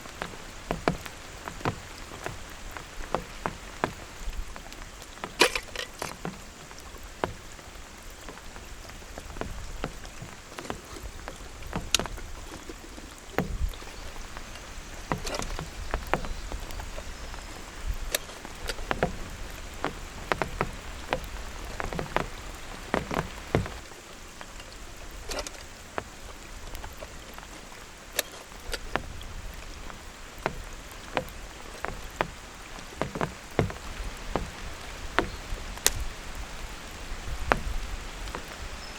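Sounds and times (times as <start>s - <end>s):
heavy rain drops tapping: 0.0s - 38.9s.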